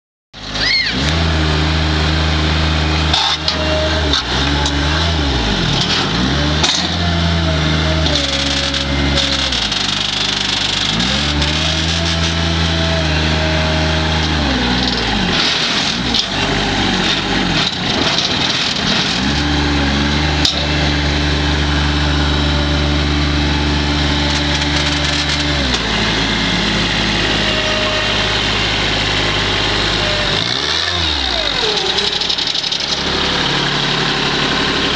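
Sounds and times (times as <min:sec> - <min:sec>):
diesel engine revving: 0:00.4 - 0:34.9.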